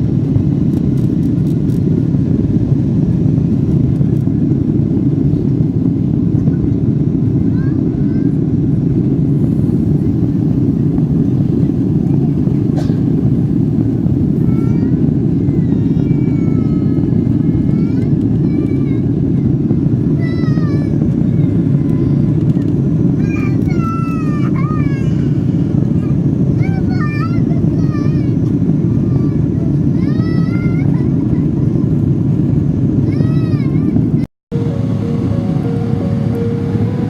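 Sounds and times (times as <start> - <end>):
airplane cabin engine noise: 0.0 - 37.0.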